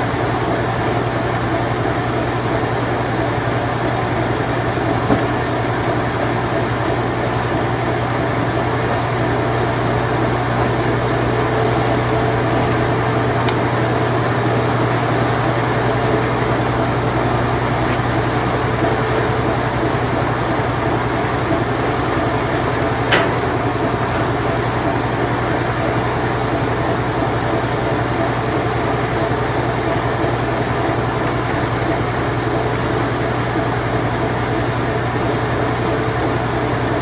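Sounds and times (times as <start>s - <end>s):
washing machine spinning: 0.0s - 37.0s.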